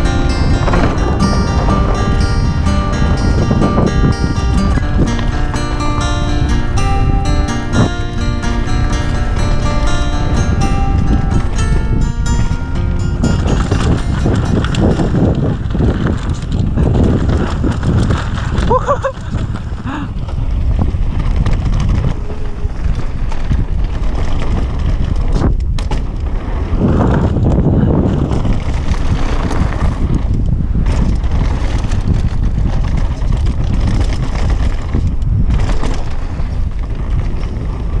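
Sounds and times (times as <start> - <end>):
bike tyres rumbling on dirt: 0.0 - 38.0
wind buffeting microphone: 0.0 - 38.0.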